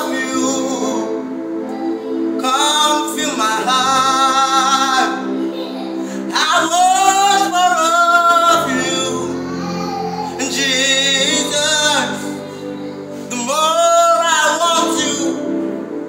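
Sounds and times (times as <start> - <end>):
man singing gospel: 0.0 - 16.0.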